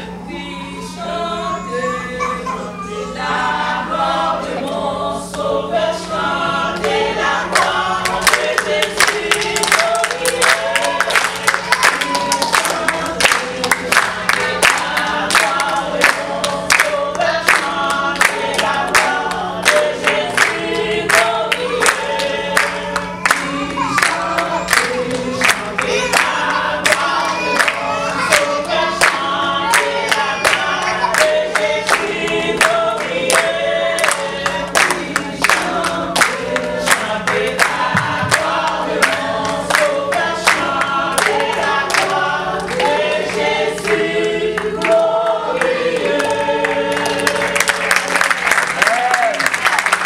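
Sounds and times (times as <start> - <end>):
women singing together: 0.0 - 49.0
hand claps: 6.8 - 44.0, 45.6 - 50.0.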